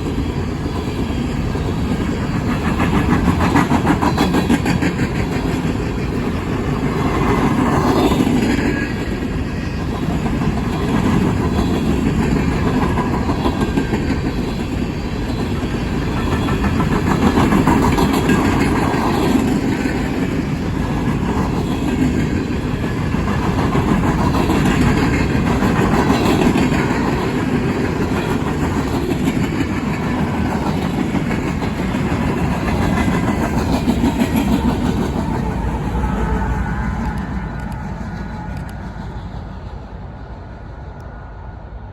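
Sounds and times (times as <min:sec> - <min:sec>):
freight train wheels clacking: 0:00.0 - 0:41.2.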